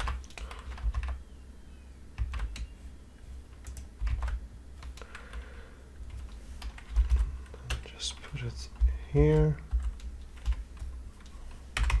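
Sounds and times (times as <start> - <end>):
computer keyboard keystrokes: 0.0 - 1.2, 2.2 - 2.7, 3.5 - 5.5, 6.1 - 12.0.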